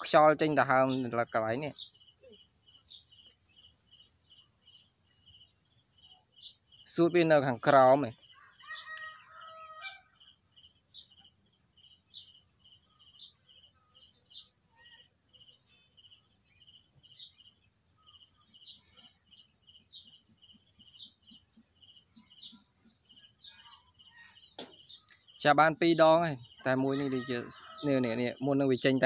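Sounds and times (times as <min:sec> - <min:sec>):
faint bird chirping: 0:00.0 - 0:29.0.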